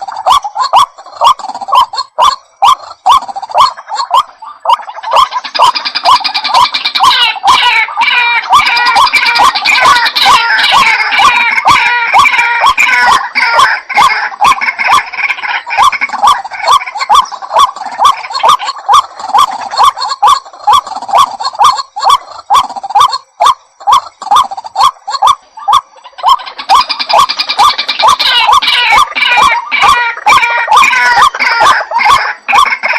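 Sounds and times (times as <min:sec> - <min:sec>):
waterhen calling: 0:00.0 - 0:32.9.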